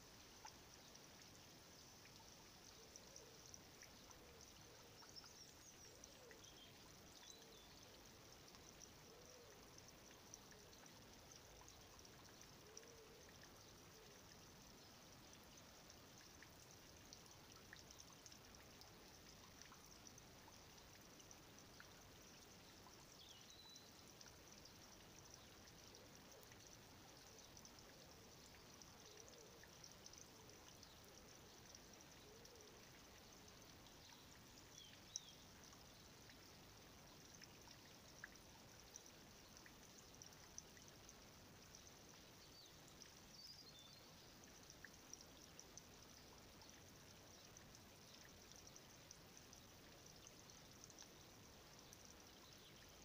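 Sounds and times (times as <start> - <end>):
faint outdoor hiss: 0.0 - 53.0
light ticks: 0.3 - 53.0.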